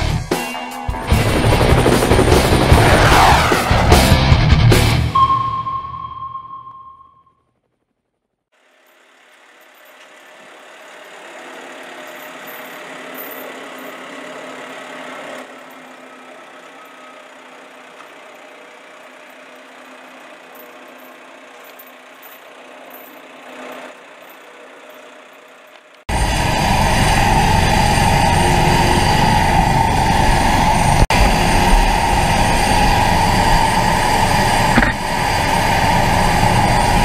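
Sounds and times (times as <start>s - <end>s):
helicopter turbine engines running: 0.0s - 5.0s, 7.5s - 37.0s.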